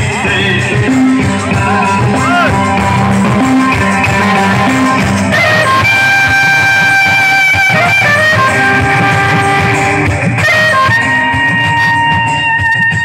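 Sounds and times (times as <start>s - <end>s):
sliding melody over busy beat: 0.0s - 13.0s.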